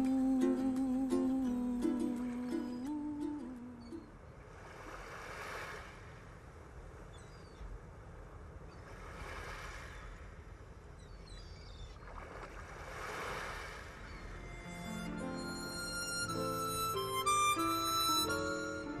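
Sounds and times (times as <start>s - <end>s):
sea waves washing in: 0.0s - 7.1s, 7.8s - 11.0s, 11.9s - 19.0s.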